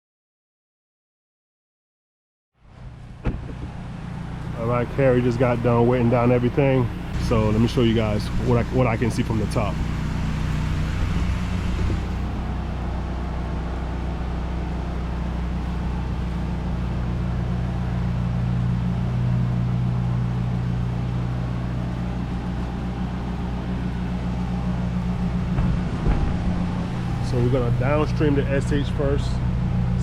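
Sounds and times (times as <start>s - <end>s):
pressure washer engine running: 3.5s - 30.0s.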